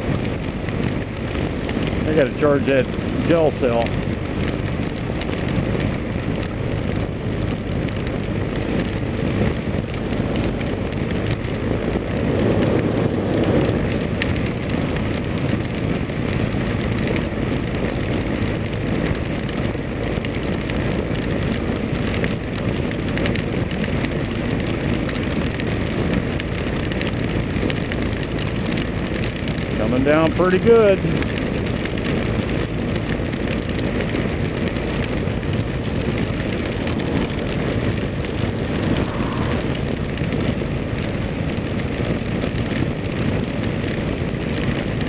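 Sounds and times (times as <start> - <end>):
wind rush: 0.0 - 28.7, 31.3 - 45.0
motorcycle engine running: 0.0 - 45.0
road noise: 0.0 - 45.0.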